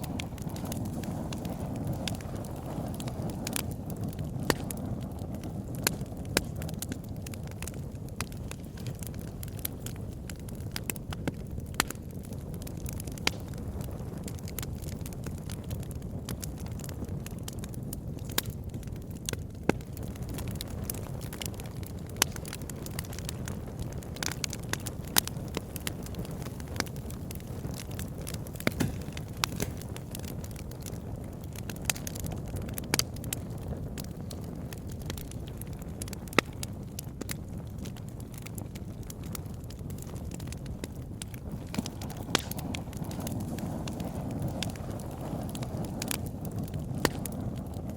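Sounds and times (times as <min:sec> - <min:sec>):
campfire crackling and popping: 0:00.0 - 0:47.9
low rush of burning: 0:00.0 - 0:47.9.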